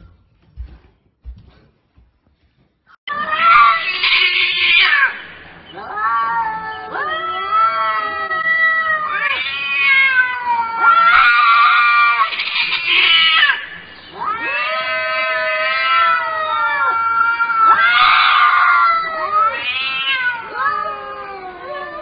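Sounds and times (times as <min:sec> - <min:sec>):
cats yowling: 0:03.1 - 0:22.0.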